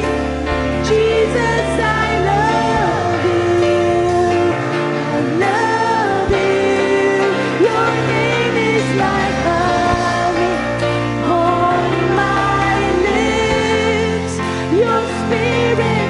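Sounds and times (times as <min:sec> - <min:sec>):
band with guitar: 0:00.0 - 0:16.0.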